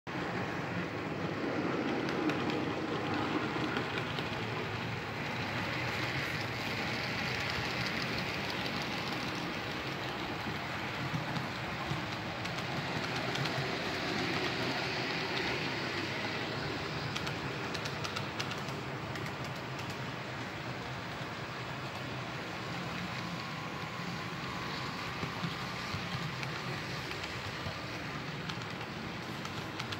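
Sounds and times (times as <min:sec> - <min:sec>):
model train motors whirring: 0:02.0 - 0:29.9.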